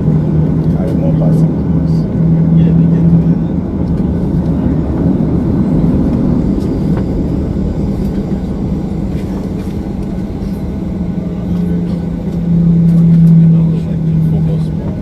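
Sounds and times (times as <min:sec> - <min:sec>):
airliner cabin engine rumble: 0:00.0 - 0:15.0
low hum: 0:00.0 - 0:15.0.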